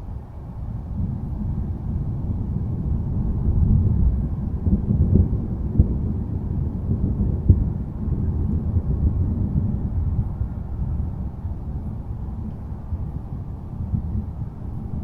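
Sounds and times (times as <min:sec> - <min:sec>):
low rolling thunder: 0:00.2 - 0:15.0.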